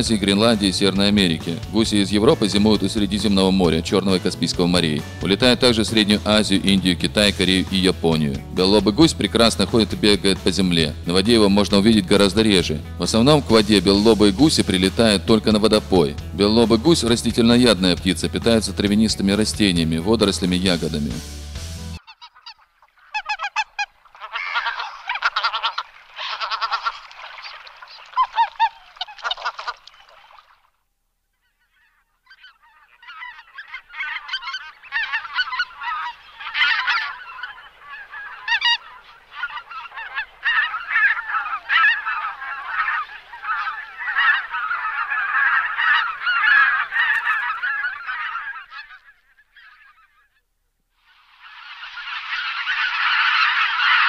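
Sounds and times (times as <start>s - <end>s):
geese honking: 0.0s - 21.2s, 21.8s - 30.6s, 31.4s - 54.0s.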